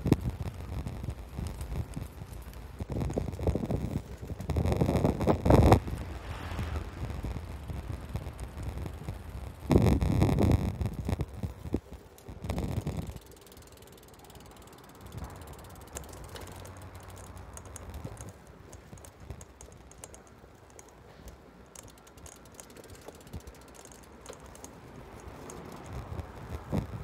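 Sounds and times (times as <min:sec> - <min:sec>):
bicycle freewheel ticking: 0:00.0 - 0:27.0
low steady rumble: 0:00.0 - 0:27.0.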